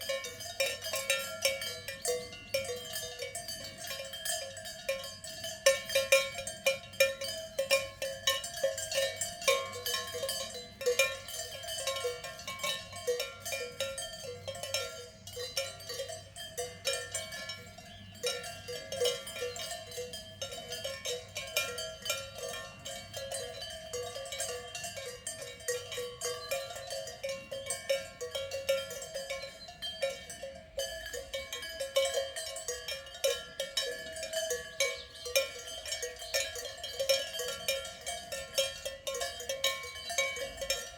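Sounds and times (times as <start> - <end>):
cowbells clanking: 0.0 - 40.9.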